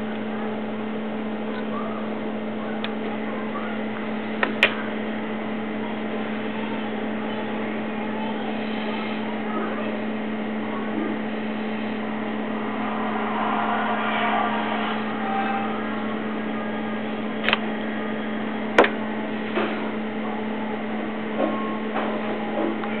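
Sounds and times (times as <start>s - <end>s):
cooling fan humming: 0.0s - 23.0s.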